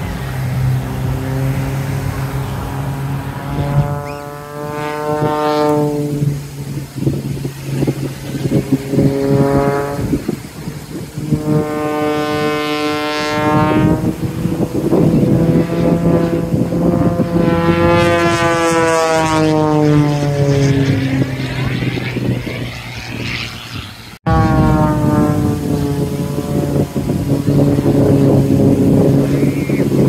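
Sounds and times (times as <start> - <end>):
propeller aircraft flying past: 0.0 - 30.0.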